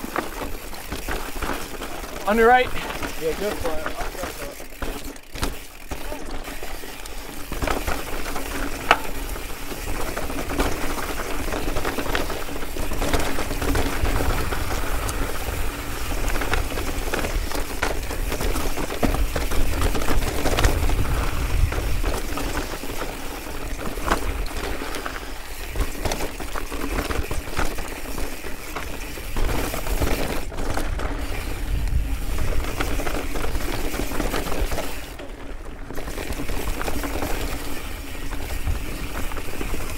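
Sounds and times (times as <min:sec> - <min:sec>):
bike clicking and rattling: 0:00.0 - 0:39.9
bike tyre and trail noise: 0:00.0 - 0:39.9.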